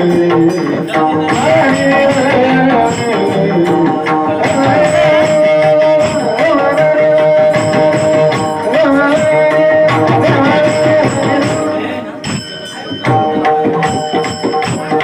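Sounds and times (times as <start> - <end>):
high ringing strikes: 0.0 - 15.0
pakhawaj drumming: 0.0 - 15.0.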